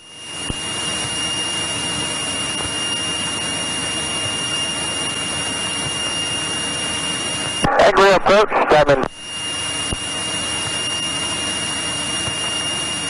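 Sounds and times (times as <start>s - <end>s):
airplane engine and propeller: 0.0s - 13.0s
thin high whine: 0.0s - 13.0s.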